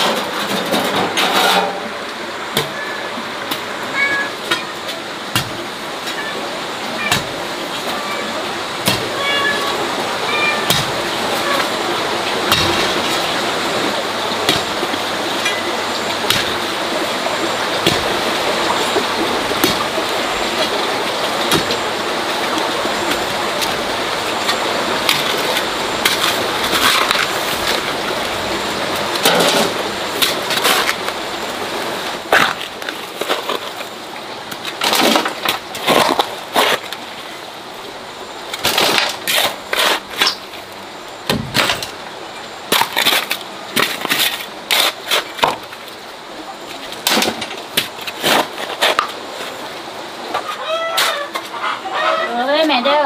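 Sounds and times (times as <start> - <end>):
gritty scraping and rustling: 0.0 - 31.3, 32.2 - 37.4, 38.4 - 42.0, 42.7 - 46.0, 46.7 - 49.7, 50.3 - 53.0.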